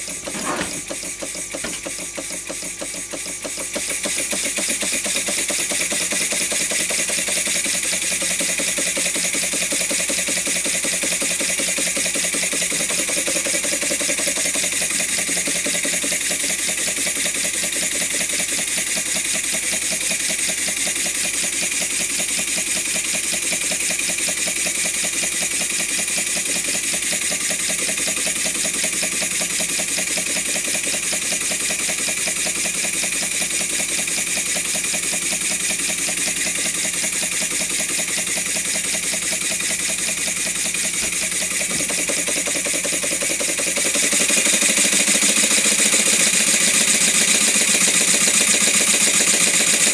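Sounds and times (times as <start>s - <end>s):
model steam engine chuffing: 0.0s - 49.9s.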